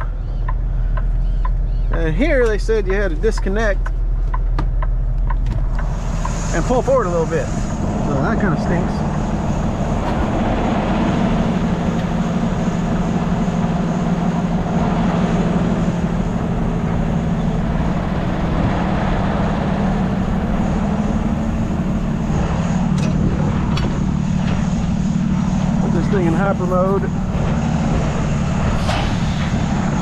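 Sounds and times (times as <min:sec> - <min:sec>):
truck diesel engine idling: 0:00.0 - 0:30.0.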